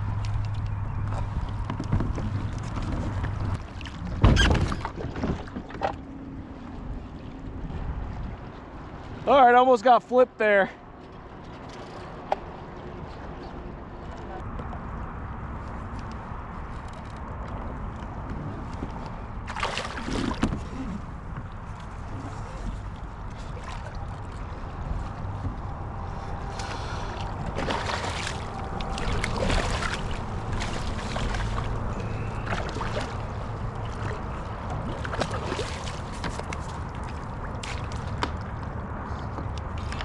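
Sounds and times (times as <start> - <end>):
water sloshing against a kayak: 0.1 - 9.4, 10.8 - 40.0.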